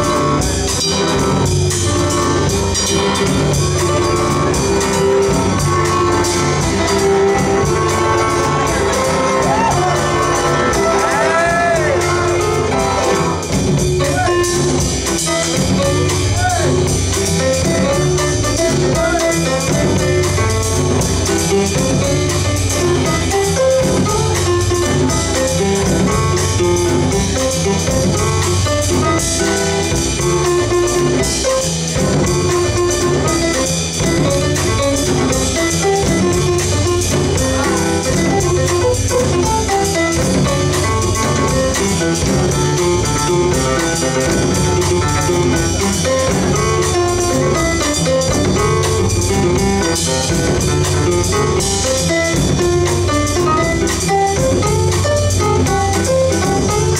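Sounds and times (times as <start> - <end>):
drum kit: 0.0 - 56.9
piano: 0.0 - 56.9
upright double bass: 0.0 - 56.9.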